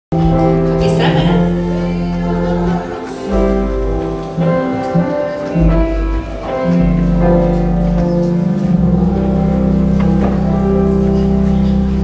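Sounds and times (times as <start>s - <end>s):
church organ chords: 0.1s - 12.0s.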